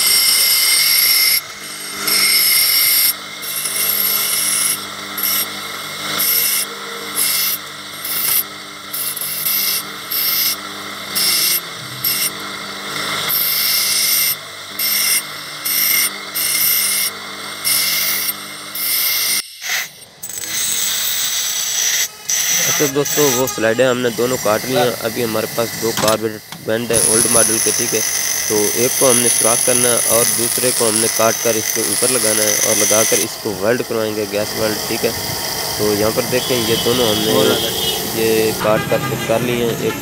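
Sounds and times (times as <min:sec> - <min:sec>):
metal grinding rasp: 0:00.0 - 0:12.4, 0:13.0 - 0:39.8
bench grinder humming: 0:00.0 - 0:40.0.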